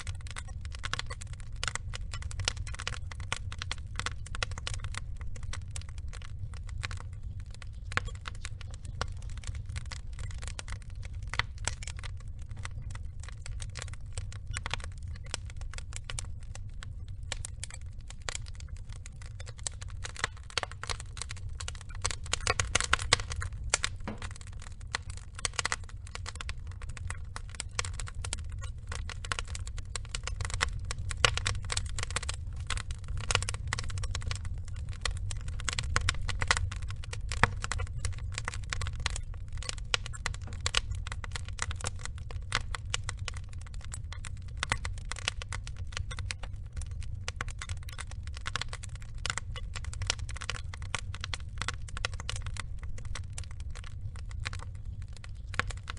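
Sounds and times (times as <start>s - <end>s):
burning logs crackling and popping: 0.0s - 55.9s
low fire rumble: 0.0s - 55.9s.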